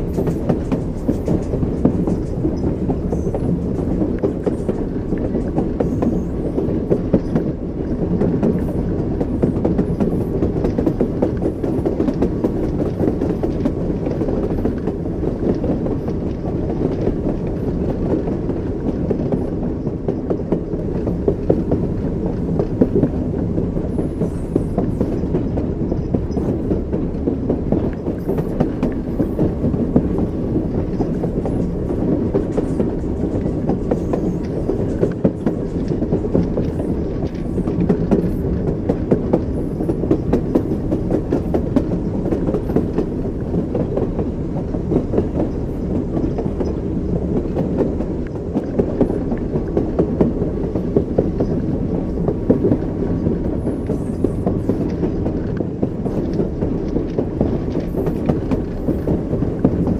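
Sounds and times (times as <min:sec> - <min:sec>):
train wheels rumbling on rails: 0:00.0 - 0:59.9
wheels clickety-clack over rail joints: 0:00.0 - 0:59.9.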